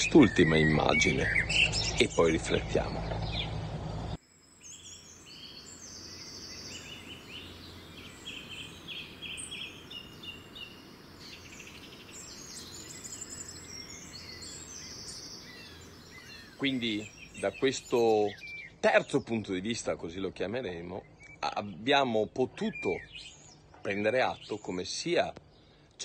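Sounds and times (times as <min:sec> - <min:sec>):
outdoor background hiss: 0:00.0 - 0:26.0
small birds chirping and trilling: 0:00.0 - 0:26.0.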